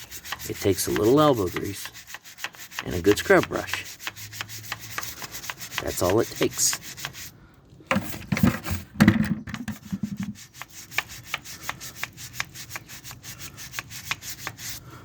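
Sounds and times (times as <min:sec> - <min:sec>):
scrub brush scrubbing metal pipe: 0:00.0 - 0:08.9, 0:09.6 - 0:14.8.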